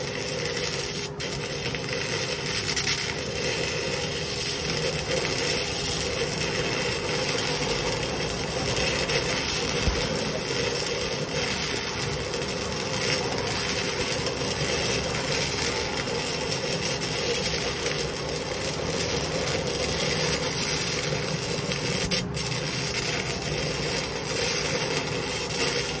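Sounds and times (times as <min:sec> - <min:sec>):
welding arc crackling: 0:00.0 - 0:26.0.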